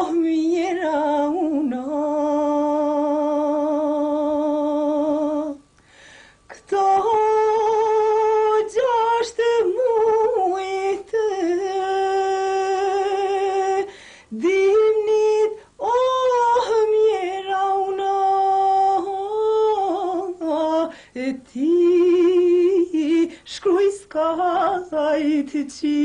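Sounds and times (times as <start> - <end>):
woman singing folk song: 0.0 - 26.0.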